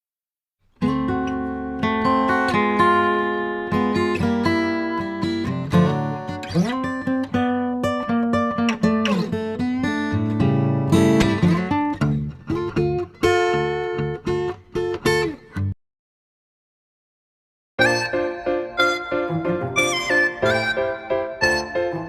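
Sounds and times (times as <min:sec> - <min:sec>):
acoustic guitar plucked notes: 0:00.8 - 0:15.8, 0:17.8 - 0:22.0.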